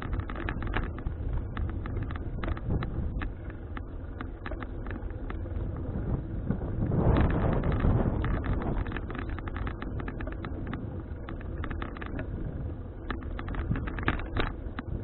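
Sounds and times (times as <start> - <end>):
bicycle clicks and rattles: 0.0 - 15.0
wind buffeting microphone: 0.0 - 15.0.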